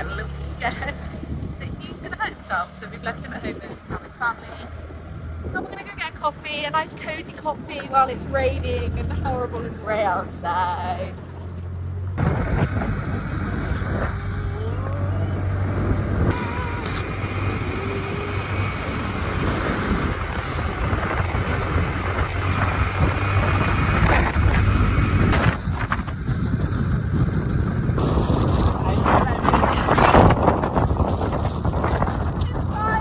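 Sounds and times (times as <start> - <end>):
wind rushing on microphone: 0.0 - 11.1, 12.1 - 33.0
scooter engine hum: 0.0 - 33.0.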